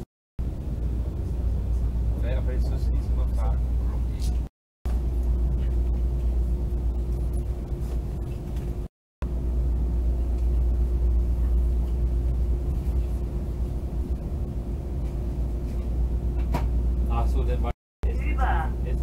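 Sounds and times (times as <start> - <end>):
train rumbling inside carriage: 0.0 - 19.0
constant hum: 0.4 - 19.0.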